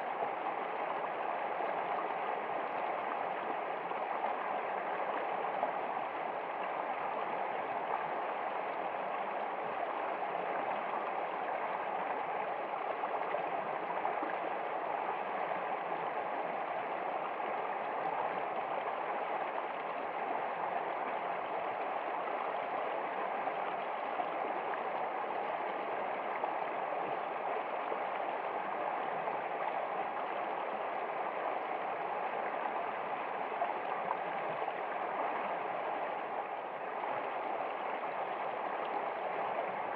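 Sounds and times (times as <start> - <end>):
water running in a stream: 0.0 - 39.9.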